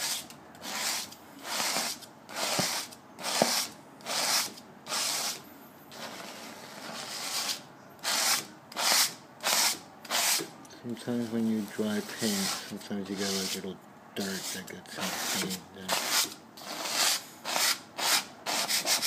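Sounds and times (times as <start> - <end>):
tool scraping dried paint: 0.0 - 10.5, 11.2 - 19.0.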